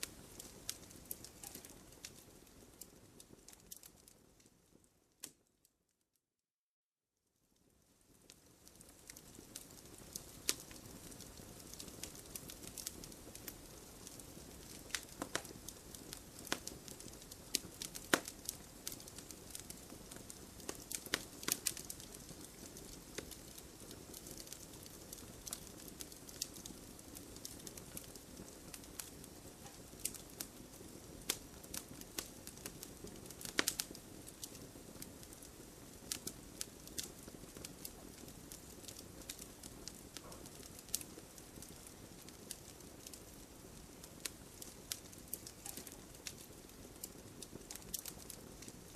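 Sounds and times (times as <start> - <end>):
campfire crackling and popping: 0.0 - 5.5, 8.0 - 48.9
soft steady hiss: 0.0 - 5.8, 7.2 - 48.9.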